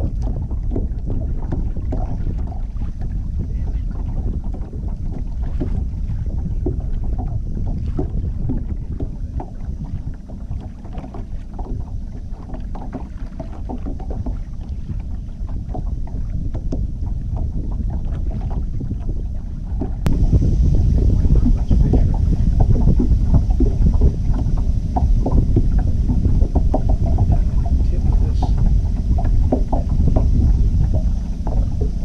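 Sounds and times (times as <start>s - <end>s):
water splashes: 0.0s - 32.0s
wind rumbling on microphone: 0.0s - 32.0s.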